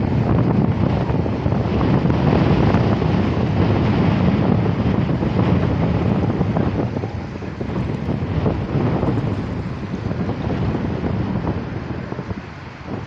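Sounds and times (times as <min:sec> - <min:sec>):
sea surf washing: 0:00.0 - 0:13.0
wind buffeting microphone: 0:00.0 - 0:13.0.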